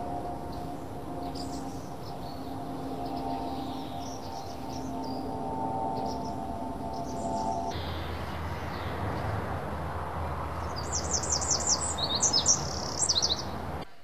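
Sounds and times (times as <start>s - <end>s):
songbird chirping: 0.4s - 9.6s, 10.4s - 13.6s.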